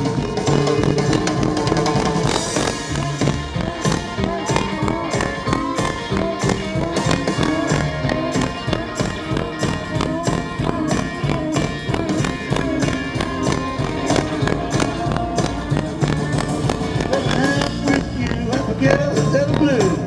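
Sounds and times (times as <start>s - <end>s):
electric guitar lines: 0.0s - 20.0s
instrumental blues rock band: 0.0s - 20.0s
steady drum beat: 0.0s - 20.0s.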